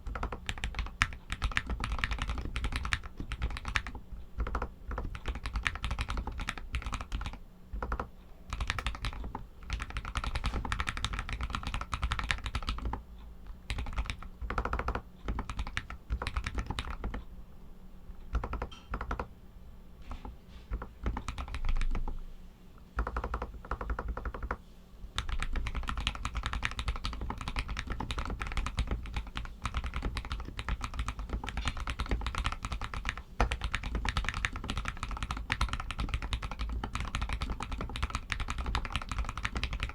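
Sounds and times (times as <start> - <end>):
typing on mechanical keyboard: 0.0 - 17.3, 18.3 - 19.3, 20.1 - 22.2, 23.0 - 24.6, 25.2 - 39.9.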